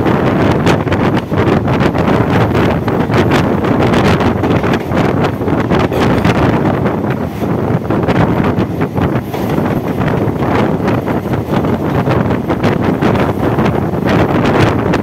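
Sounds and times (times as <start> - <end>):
train running on track: 0.0 - 15.0
wind buffeting microphone: 0.0 - 15.0.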